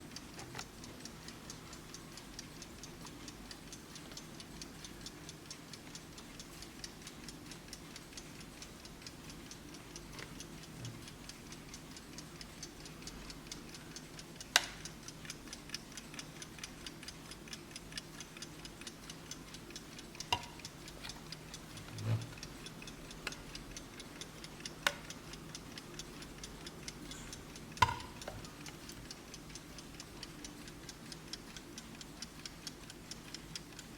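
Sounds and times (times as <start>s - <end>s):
alarm clock ticking: 0.0s - 33.9s.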